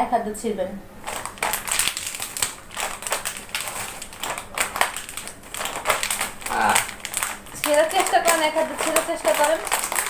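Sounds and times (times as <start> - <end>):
chip packet crinkling: 1.0 - 10.0.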